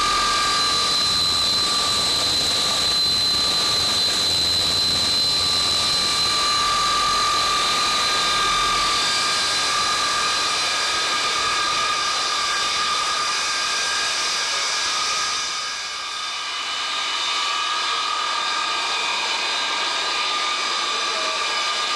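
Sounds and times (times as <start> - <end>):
jet engine roar with high whine: 0.0 - 21.9.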